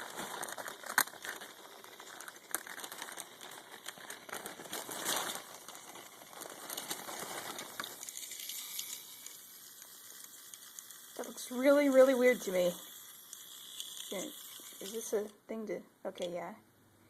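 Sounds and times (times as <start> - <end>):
rustling and crinkling: 0.0 - 15.3.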